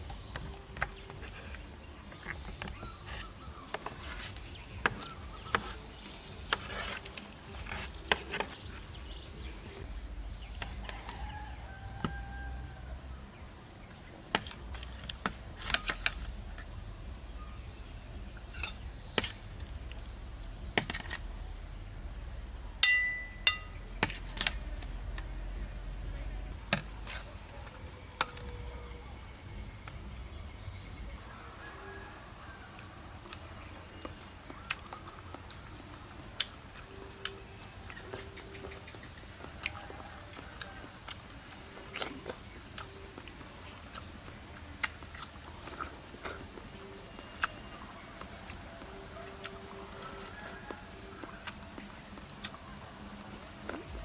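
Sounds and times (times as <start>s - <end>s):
insect chorus droning: 0.0s - 54.0s.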